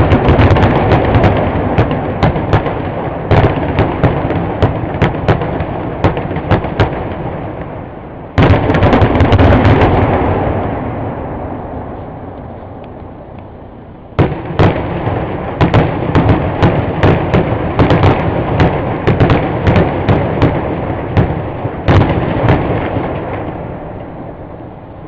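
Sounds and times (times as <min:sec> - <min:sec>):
fireworks bangs: 0:00.0 - 0:24.5
echoing rumble: 0:00.0 - 0:25.0.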